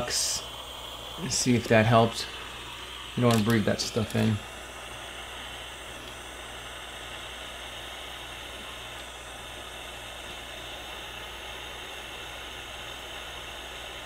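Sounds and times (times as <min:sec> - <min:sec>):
heat blower hissing: 0:00.0 - 0:14.0.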